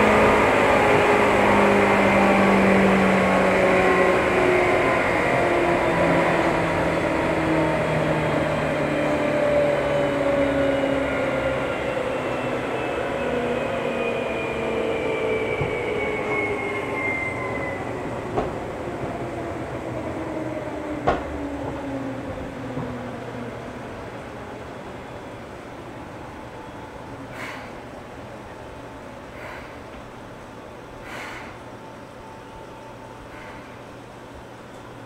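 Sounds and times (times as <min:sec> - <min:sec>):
electric train motor whine: 0:00.0 - 0:35.0.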